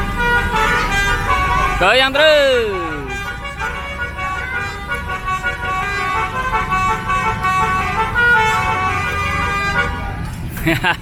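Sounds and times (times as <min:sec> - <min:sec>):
bus horn trumpet melody: 0:00.0 - 0:10.5.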